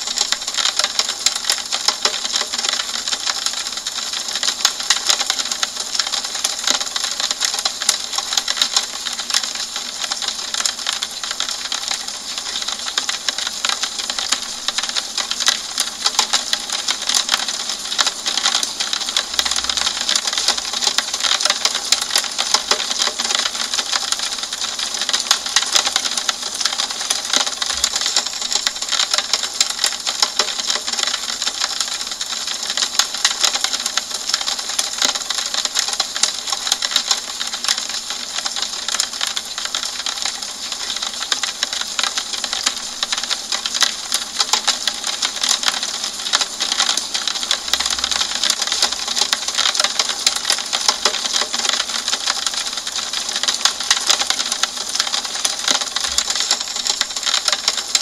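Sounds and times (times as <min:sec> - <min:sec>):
rain hitting a window: 0:00.0 - 0:58.0.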